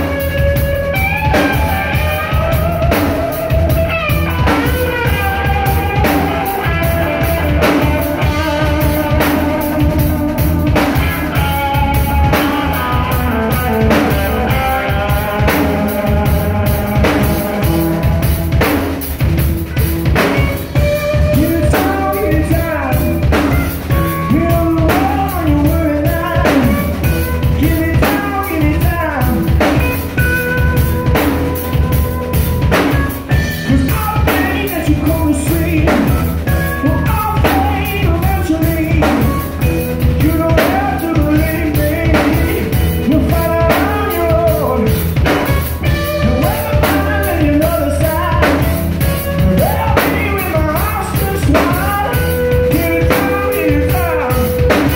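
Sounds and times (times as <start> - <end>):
bass guitar: 0.0 - 54.9
drum kit beat: 0.0 - 54.9
electric guitar: 0.0 - 54.9.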